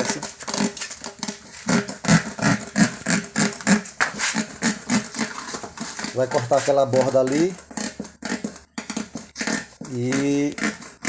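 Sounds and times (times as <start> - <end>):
knife sawing through rubber tire: 0.0 - 11.0.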